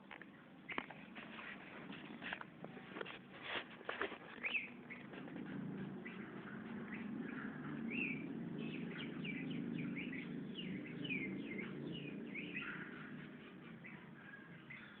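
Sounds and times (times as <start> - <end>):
steady low hum: 0.0 - 15.0
bird chirping: 0.1 - 3.0, 3.9 - 15.0.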